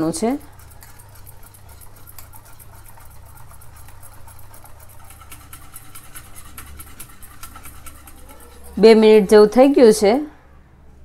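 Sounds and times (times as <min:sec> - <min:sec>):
whisk scraping thick batter: 0:00.0 - 0:10.0.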